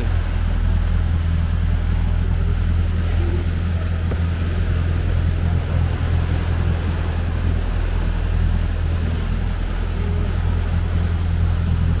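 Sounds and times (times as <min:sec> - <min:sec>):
boat engines humming: 0:00.0 - 0:12.0
wake churning: 0:00.0 - 0:12.0.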